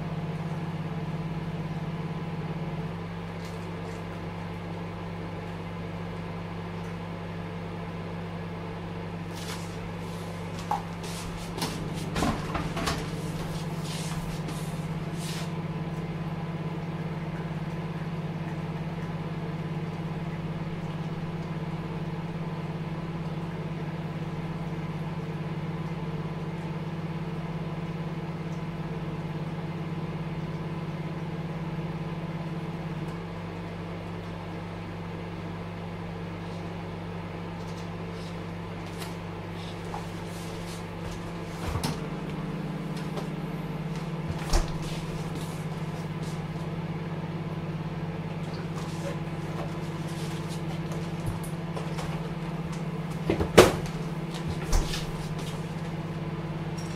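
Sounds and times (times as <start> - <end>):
microwave oven humming: 0.0 - 56.9.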